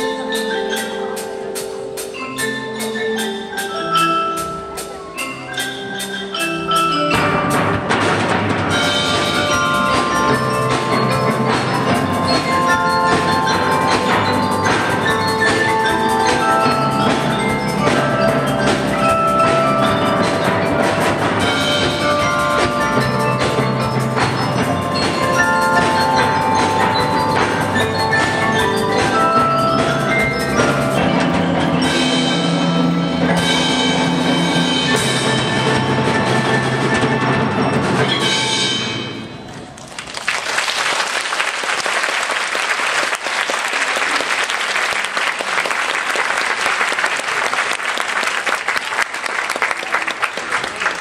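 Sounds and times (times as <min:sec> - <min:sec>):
drums: 0:00.0 - 0:51.0
mallet percussion ensemble: 0:00.0 - 0:51.0.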